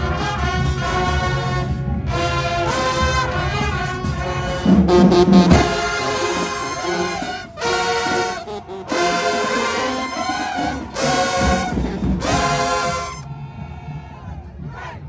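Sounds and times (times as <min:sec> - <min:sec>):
brass band playing held notes: 0:00.0 - 0:13.3.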